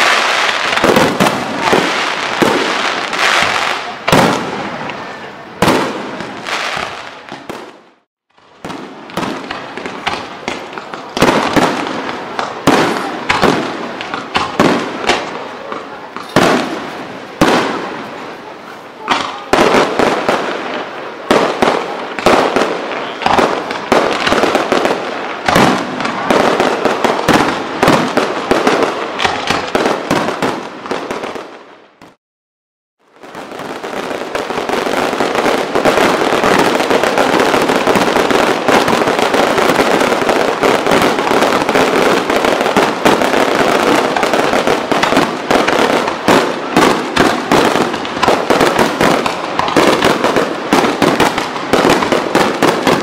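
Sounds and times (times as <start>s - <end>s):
fireworks bangs and crackle: 0.0s - 32.2s, 33.1s - 53.0s.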